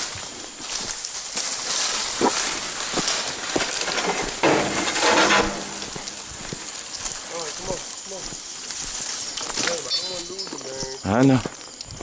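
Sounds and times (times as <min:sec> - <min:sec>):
dry brush rustling and crackling: 0:00.0 - 0:12.0.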